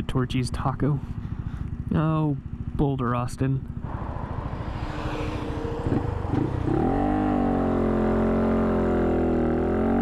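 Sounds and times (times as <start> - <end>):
motorcycle engine: 0.0 - 10.0.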